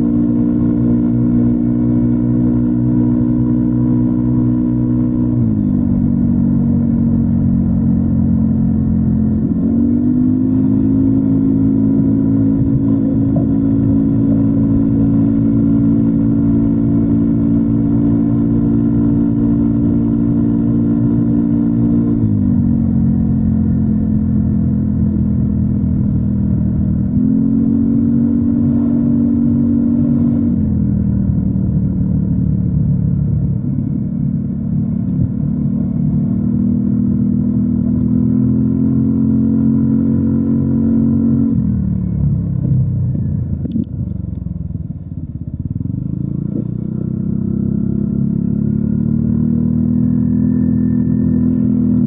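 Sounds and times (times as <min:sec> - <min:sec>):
scooter engine running: 0:00.0 - 0:52.0.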